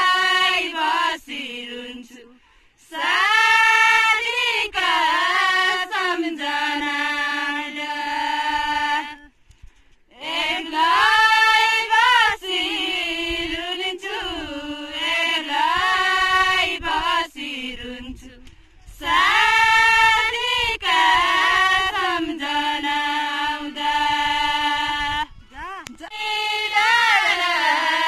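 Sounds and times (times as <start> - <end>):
women singing unaccompanied: 0.0 - 9.3, 10.1 - 25.4, 26.0 - 28.0.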